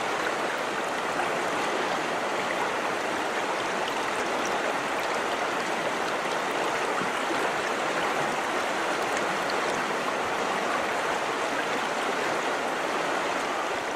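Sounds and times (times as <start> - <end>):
river water rushing over rocks: 0.0 - 13.9.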